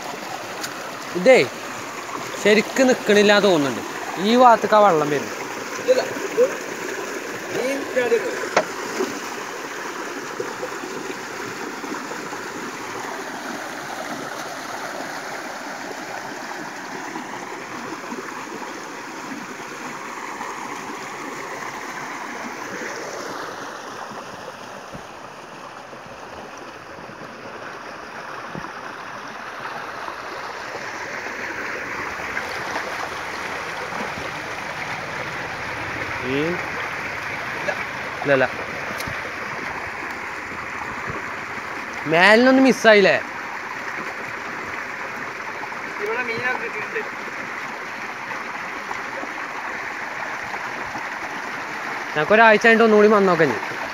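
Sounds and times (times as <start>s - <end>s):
stream water rushing: 0.0s - 53.9s.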